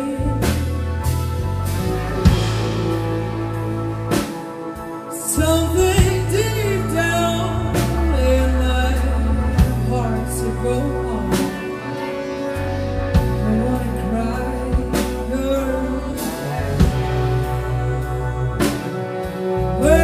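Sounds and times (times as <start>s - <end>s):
woman singing: 0.0s - 1.1s, 3.3s - 20.0s
live band playing soul ballad: 0.0s - 20.0s.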